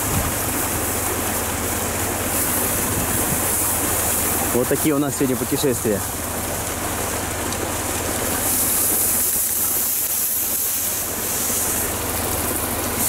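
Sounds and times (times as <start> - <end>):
atv engine running: 0.0 - 13.0
water churning and splashing: 0.0 - 13.0.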